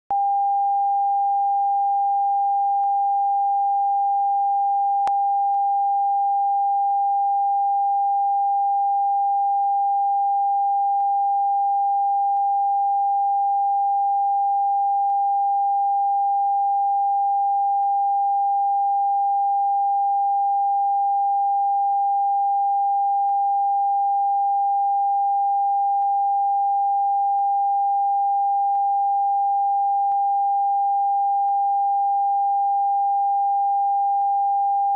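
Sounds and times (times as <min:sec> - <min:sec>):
steady sine-wave beep: 0:00.1 - 0:34.9.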